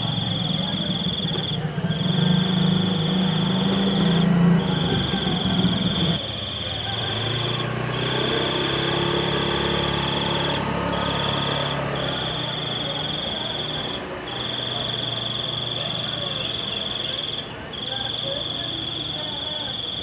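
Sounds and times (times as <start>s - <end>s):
high insect-like trill: 0.0s - 20.0s.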